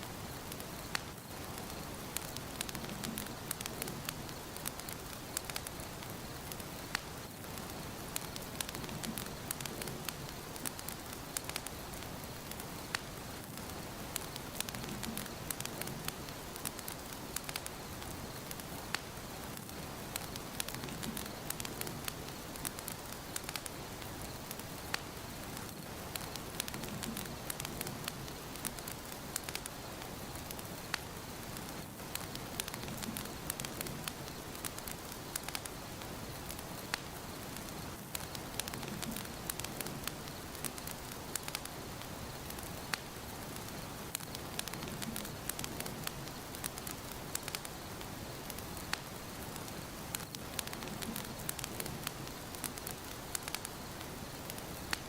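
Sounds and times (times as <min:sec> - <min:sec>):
fire crackles and pops: 0:00.0 - 0:55.0
wood fire hissing: 0:00.0 - 0:55.0.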